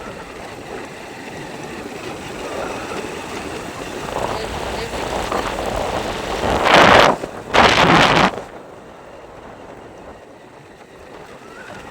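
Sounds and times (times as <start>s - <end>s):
wind blowing over microphone: 0.0s - 11.9s.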